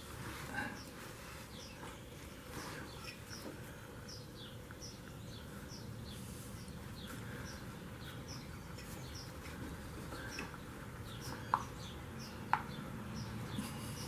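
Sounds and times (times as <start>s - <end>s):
faint bird chirping: 0.1s - 14.0s.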